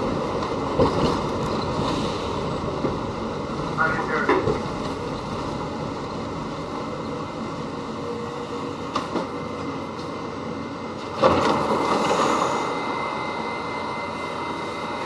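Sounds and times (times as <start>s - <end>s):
subway train rumble: 0.0s - 15.0s
train rush: 0.0s - 15.0s.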